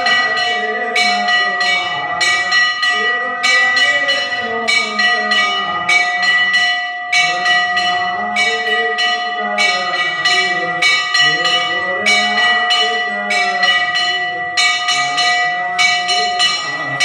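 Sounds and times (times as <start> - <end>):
brass bell ringing: 0.0 - 17.0
person singing: 0.0 - 17.0.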